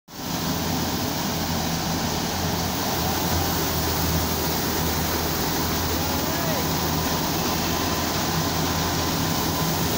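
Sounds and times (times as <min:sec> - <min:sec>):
threshing drum and fan: 0:00.1 - 0:09.9
tractor engine droning: 0:00.1 - 0:09.9.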